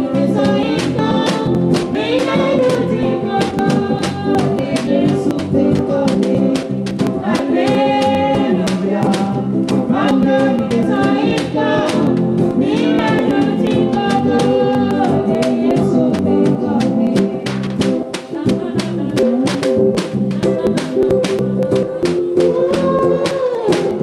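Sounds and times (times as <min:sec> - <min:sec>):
song with instrumental accompaniment: 0:00.0 - 0:24.0.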